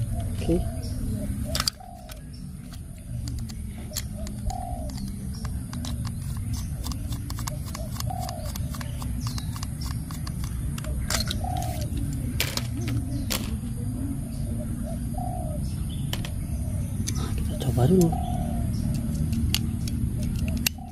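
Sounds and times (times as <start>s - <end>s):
bird cooing: 0.0s - 9.0s, 10.7s - 19.3s, 20.1s - 20.9s.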